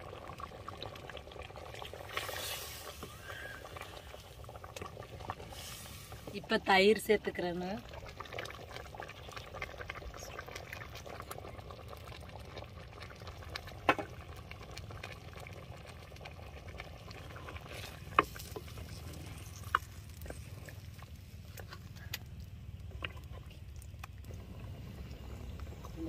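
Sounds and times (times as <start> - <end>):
gravy bubbling in a pot: 0.0 - 26.0.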